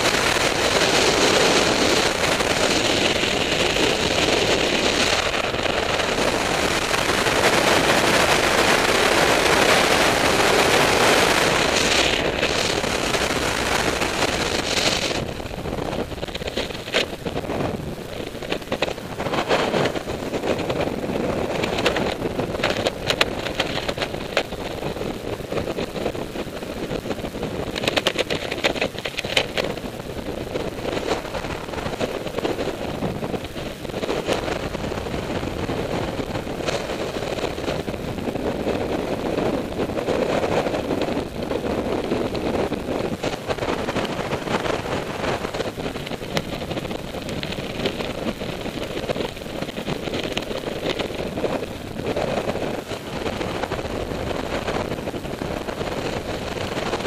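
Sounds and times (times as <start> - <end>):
rapid crackling: 0.0 - 57.0
wind buffeting microphone: 0.0 - 57.0.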